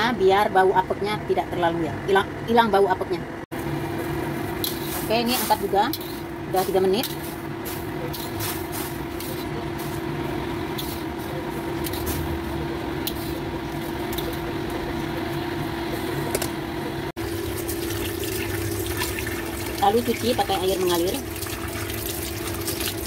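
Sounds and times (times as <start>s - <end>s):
kitchen hum: 0.0s - 23.0s.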